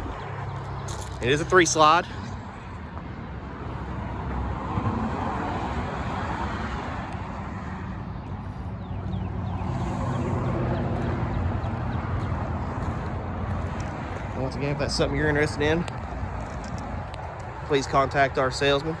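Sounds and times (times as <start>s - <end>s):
faint engine hum: 0.0s - 19.0s
traffic rumble: 0.0s - 19.0s.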